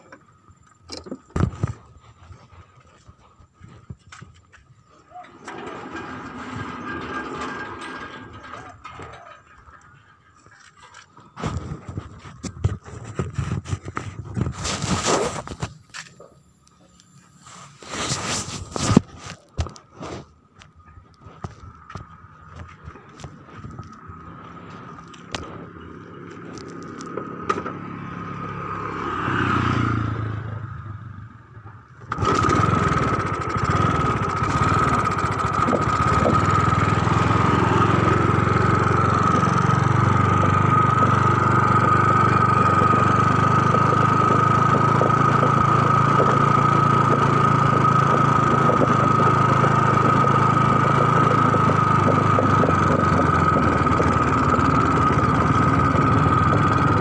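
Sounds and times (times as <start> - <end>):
engine starting and running: 0.0 - 57.0.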